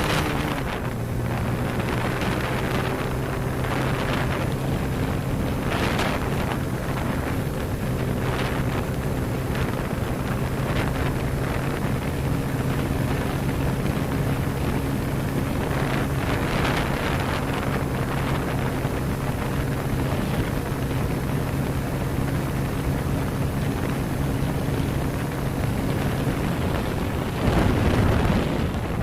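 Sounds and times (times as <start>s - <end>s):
motorcycle engine humming: 0.0s - 29.0s
wind rush on microphone: 0.0s - 29.0s.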